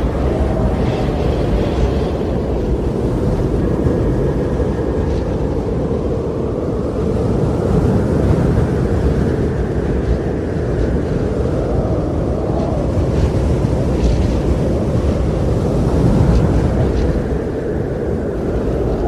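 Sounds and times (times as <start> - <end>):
rushing noise with deep rumble: 0.0 - 19.0.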